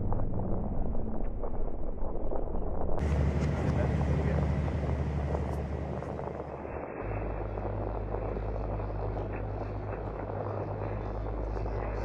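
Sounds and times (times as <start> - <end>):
deeper drone: 0.0 - 12.0
low drone: 0.0 - 12.0.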